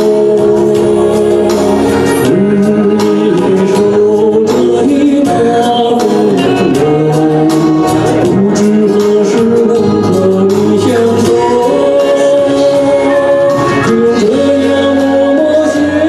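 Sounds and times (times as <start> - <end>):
backing music with steady beat: 0.0 - 16.0
man singing into microphone: 0.0 - 16.0.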